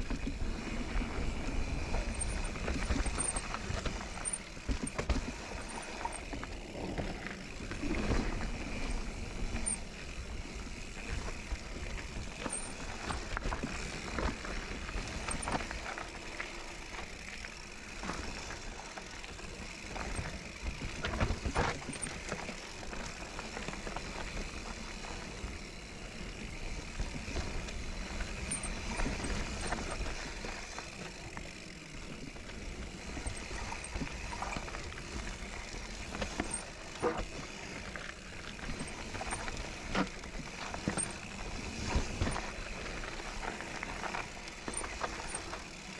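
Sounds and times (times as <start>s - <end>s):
bike tyres on dirt trail: 0.0s - 45.9s.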